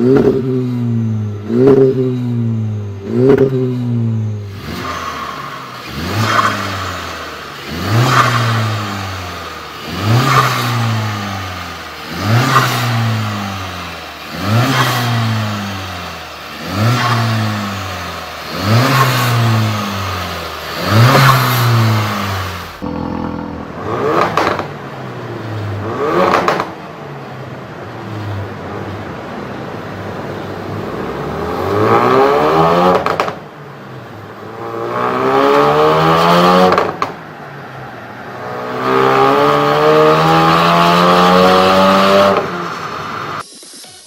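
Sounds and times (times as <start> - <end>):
car engine revving: 0.0 - 43.4.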